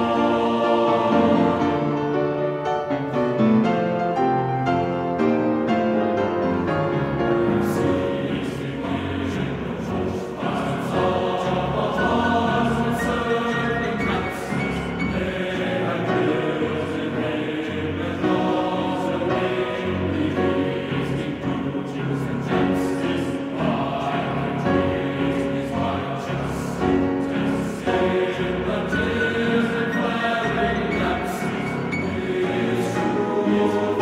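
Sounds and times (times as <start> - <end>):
choir singing held chords: 0.0 - 34.0.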